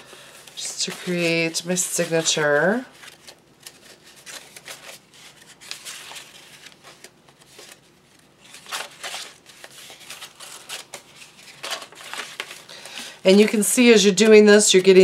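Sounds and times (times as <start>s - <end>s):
paper sheets rustling and scraping: 0.0s - 15.0s.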